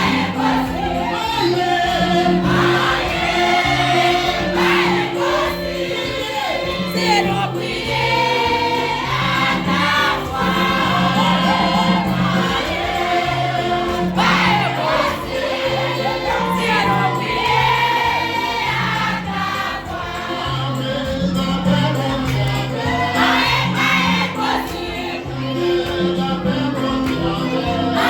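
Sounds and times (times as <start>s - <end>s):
church choir singing: 0.0s - 28.0s
instrumental accompaniment: 0.0s - 28.0s.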